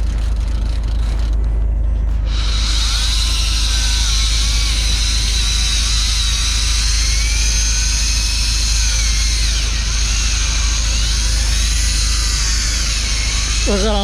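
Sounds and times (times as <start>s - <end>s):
electric fishing reel motor whining: 2.2s - 14.0s.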